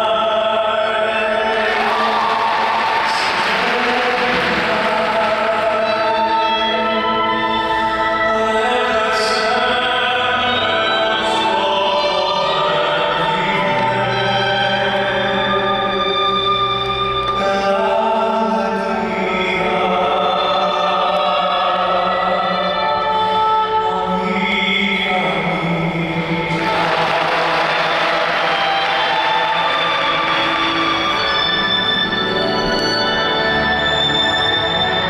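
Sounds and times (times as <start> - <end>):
operatic choral music with orchestra: 0.0 - 35.0.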